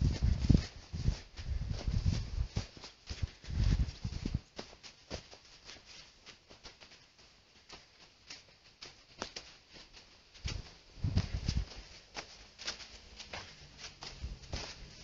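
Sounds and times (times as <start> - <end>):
footsteps crunching on gravel: 0.0 - 15.0.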